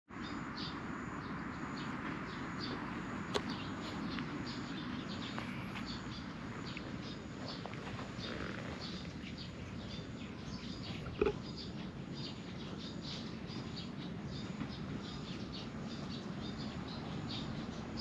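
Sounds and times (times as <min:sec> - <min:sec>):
birds chirping: 0:00.1 - 0:18.0
low outdoor noise: 0:00.1 - 0:18.0.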